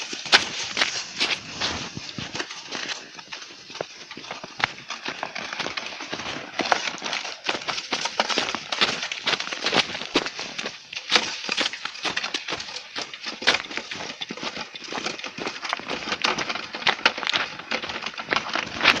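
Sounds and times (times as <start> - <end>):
crunching footsteps in snow: 0.0 - 19.0.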